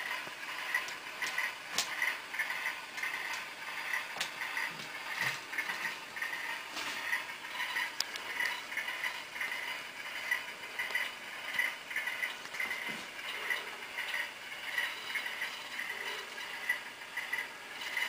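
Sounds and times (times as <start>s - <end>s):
faint motor whir: 0.0s - 18.0s
model train clicking: 0.0s - 18.0s.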